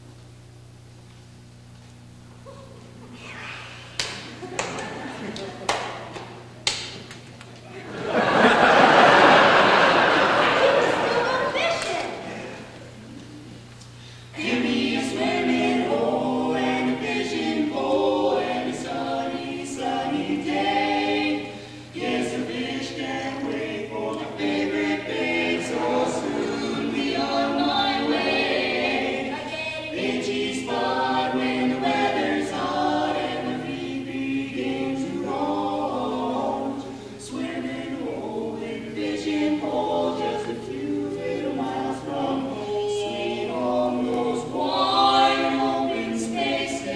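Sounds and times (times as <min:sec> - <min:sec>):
quartet singing a cappella harmony: 0:07.7 - 0:46.9.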